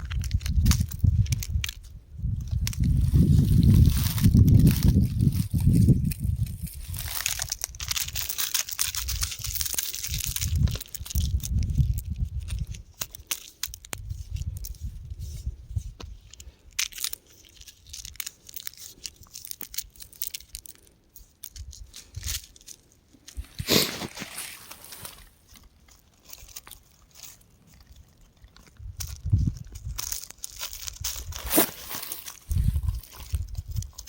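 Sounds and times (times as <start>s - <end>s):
rocks crumbling and crushing: 0.0s - 14.8s, 16.5s - 34.0s.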